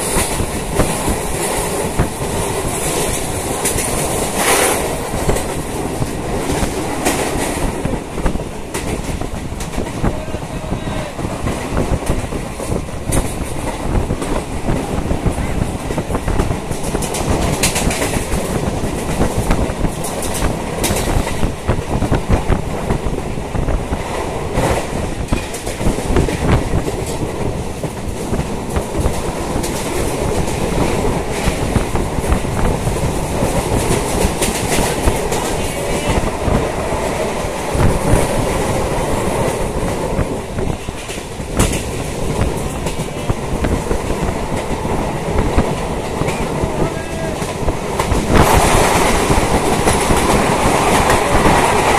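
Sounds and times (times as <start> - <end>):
wheels clacking over rail joints: 0.0 - 10.3, 11.2 - 51.9
train rumbling and rattling: 0.0 - 51.9.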